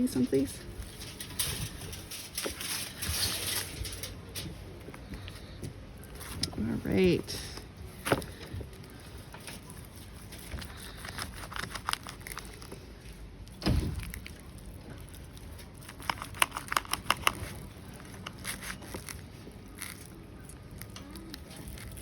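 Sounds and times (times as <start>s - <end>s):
crinkling: 0.0s - 22.0s.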